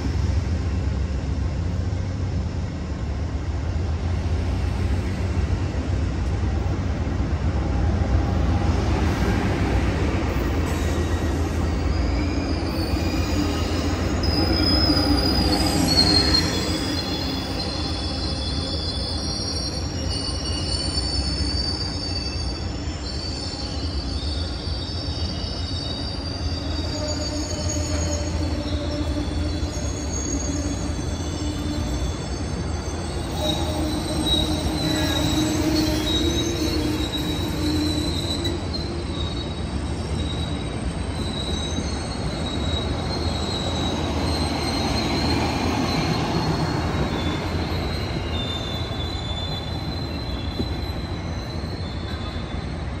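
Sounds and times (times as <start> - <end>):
train cars rumbling past: 0.0 - 53.0
train wheels squealing: 3.4 - 53.0.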